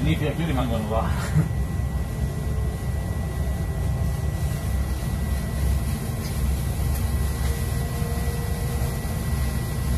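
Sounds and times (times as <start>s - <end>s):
thin steady whine: 0.0s - 9.9s
train rumble: 0.0s - 9.9s.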